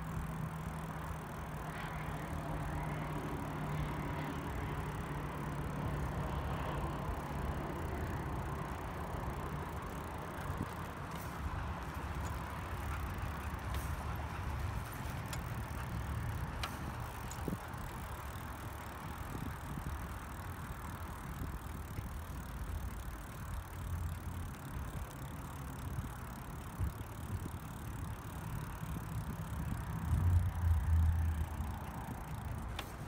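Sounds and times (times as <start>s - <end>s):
bicycle clicks and rattles: 0.0s - 33.0s
bicycle tyres rumbling on concrete: 0.0s - 33.0s.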